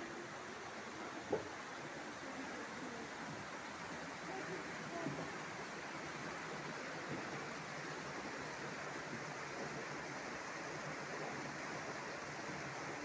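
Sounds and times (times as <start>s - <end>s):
stream flowing over rapids: 0.0s - 13.0s.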